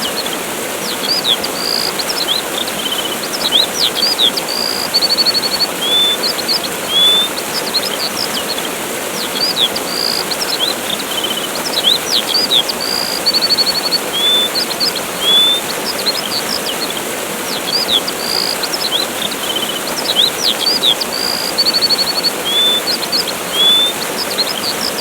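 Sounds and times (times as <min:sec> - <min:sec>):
birds chirping: 0:00.0 - 0:25.0
waterfall rushing: 0:00.0 - 0:25.0.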